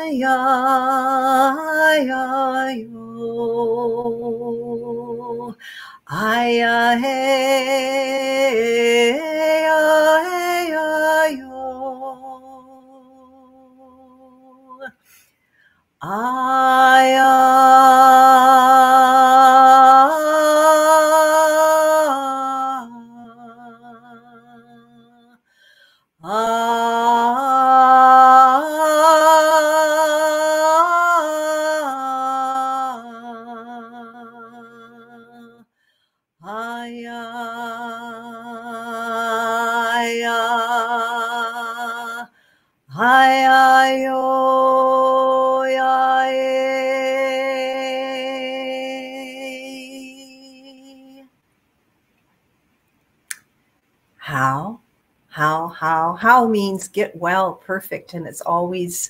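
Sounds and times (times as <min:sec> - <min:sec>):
woman chanting: 0:00.0 - 0:15.0, 0:16.0 - 0:25.4, 0:26.2 - 0:35.6, 0:36.4 - 0:42.3, 0:42.9 - 0:51.3, 0:54.2 - 0:59.0.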